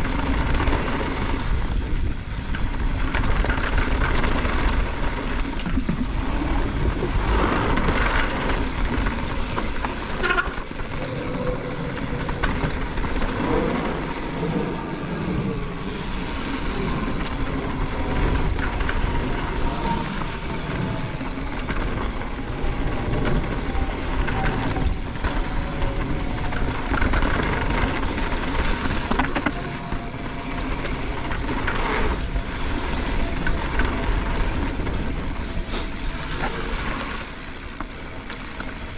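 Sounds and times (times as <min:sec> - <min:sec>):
bike rattling over rough ground: 0:00.0 - 0:38.9
bike tyre noise: 0:00.0 - 0:38.9
wind on microphone: 0:00.0 - 0:38.9.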